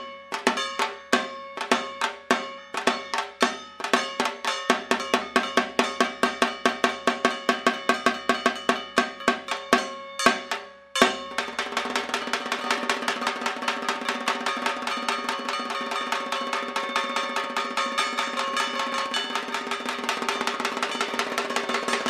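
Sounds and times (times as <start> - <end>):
drumming with sharp ringing strokes: 0.0 - 22.0.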